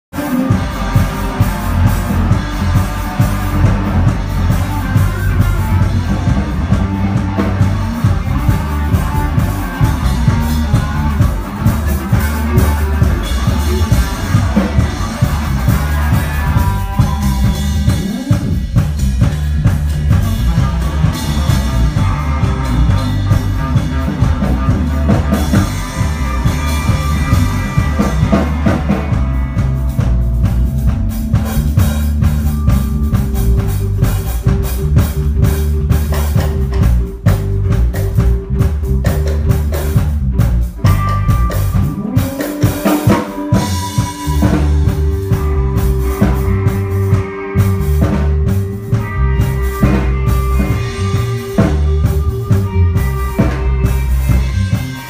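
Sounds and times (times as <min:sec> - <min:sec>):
music with drums and guitar: 0:00.1 - 0:55.0.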